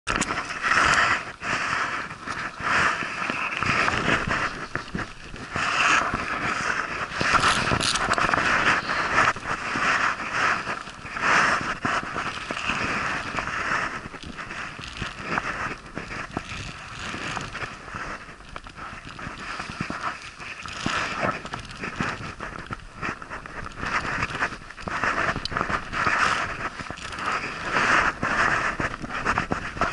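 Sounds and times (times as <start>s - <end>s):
fabric rustling against camera: 0.1s - 29.9s.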